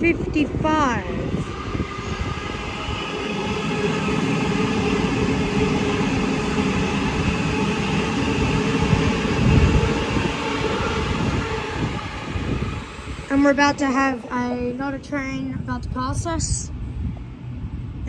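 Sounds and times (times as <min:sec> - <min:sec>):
train wheels rumbling on rails: 0:00.0 - 0:18.0
train whining tones: 0:00.0 - 0:18.0.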